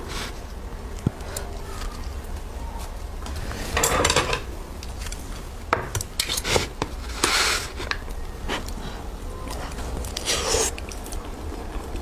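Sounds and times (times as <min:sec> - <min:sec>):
rice cakes rustling: 0:00.0 - 0:12.0.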